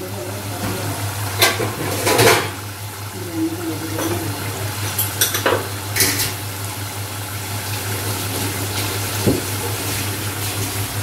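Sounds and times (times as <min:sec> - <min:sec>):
gravy bubbling in a pot: 0:00.0 - 0:11.0.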